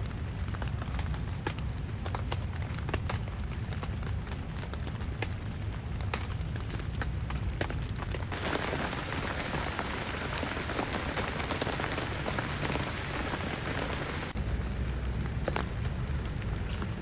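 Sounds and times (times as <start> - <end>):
heavy rain on a surface: 0.0 - 17.0.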